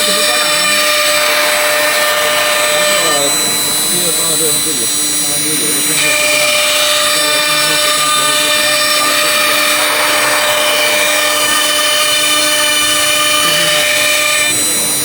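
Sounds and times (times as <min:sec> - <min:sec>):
cnc router spindle whine: 0:00.0 - 0:15.0.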